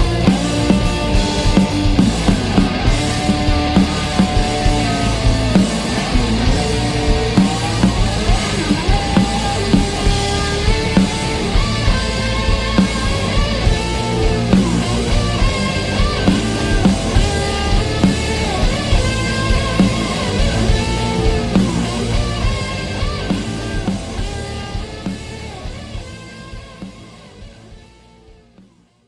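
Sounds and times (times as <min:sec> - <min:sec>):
drum beat: 0:00.0 - 0:25.2
sustained guitar notes: 0:00.0 - 0:27.7
rock band playing live: 0:00.0 - 0:28.6.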